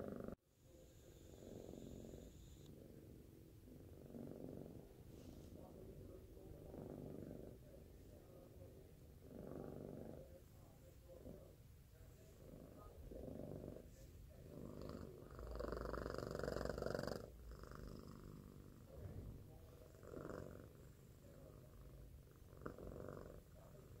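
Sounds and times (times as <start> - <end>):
kitten purring: 0.0 - 24.0.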